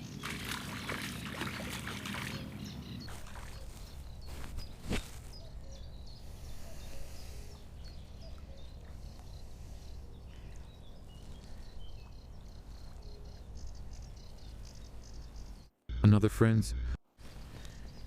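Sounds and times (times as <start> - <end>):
small birds chirping: 0.0 - 15.8, 17.2 - 18.0.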